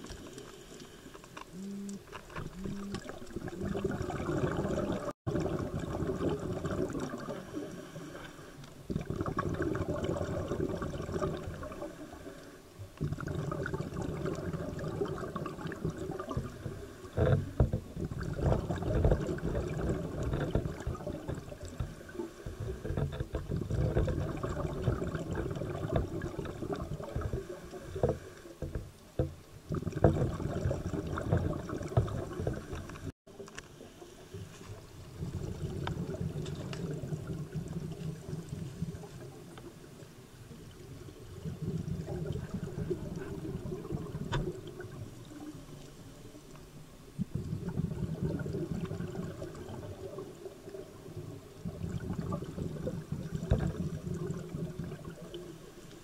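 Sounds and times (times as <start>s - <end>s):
underwater bubbles gurgling: 0.0s - 56.0s.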